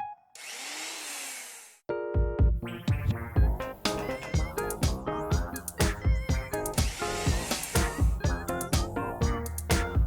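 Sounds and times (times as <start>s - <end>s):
bouncy cartoon music: 1.9s - 10.0s.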